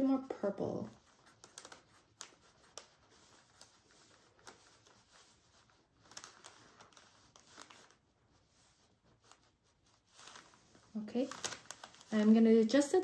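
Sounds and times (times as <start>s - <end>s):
paintbrush scratching on palette: 0.0s - 10.9s.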